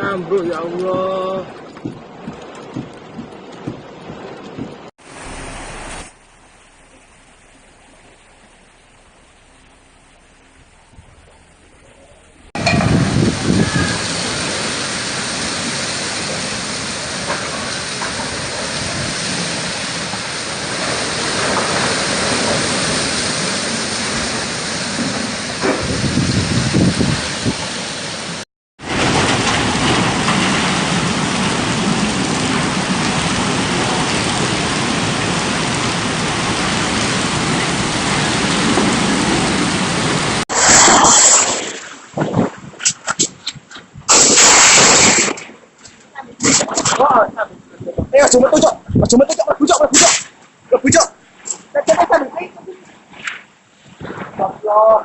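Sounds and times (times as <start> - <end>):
heavy rain: 0.0 - 55.0
wind: 0.0 - 55.0.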